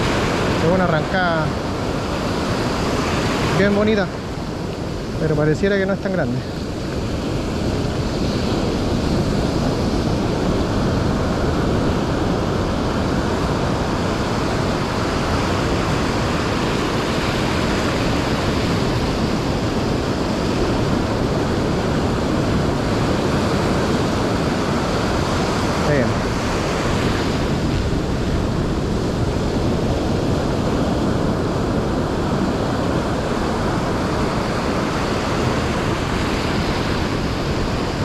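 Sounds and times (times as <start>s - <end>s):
ocean surf breaking on beach: 0.0s - 38.0s.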